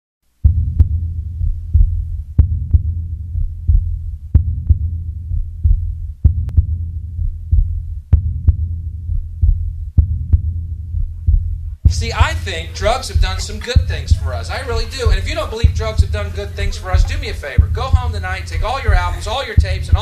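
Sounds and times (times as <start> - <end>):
heartbeat thumps: 0.4 - 20.0
low throbbing rumble: 0.4 - 20.0.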